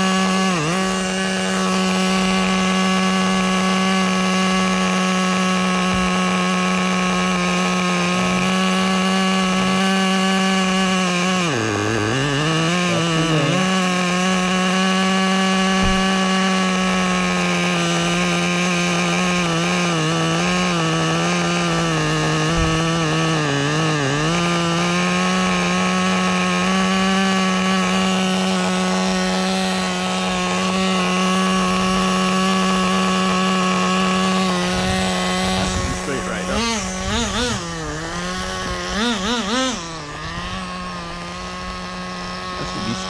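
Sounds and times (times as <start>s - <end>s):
small nitro engine buzzing: 0.0s - 43.0s.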